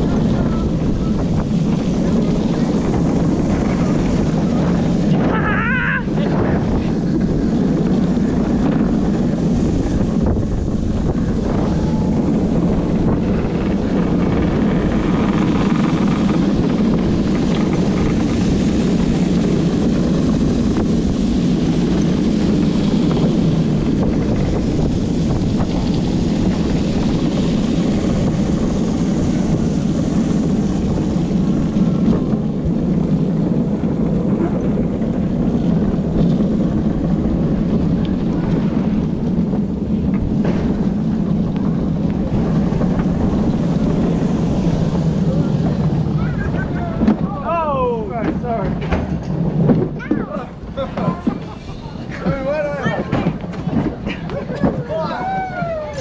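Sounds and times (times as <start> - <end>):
wheels rolling on wet track: 0.0 - 56.0
wind rushing over microphone: 0.0 - 56.0.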